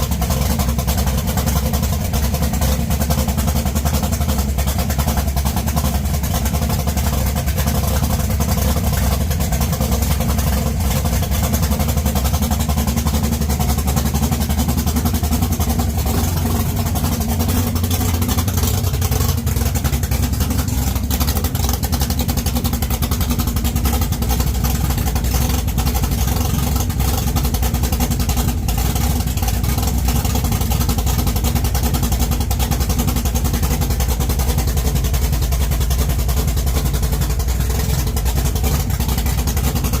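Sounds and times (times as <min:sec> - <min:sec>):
drag car engine running: 0:00.0 - 0:40.0.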